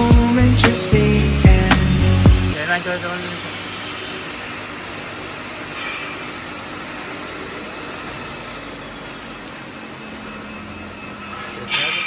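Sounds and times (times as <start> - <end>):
machinery hiss: 0.0 - 12.0.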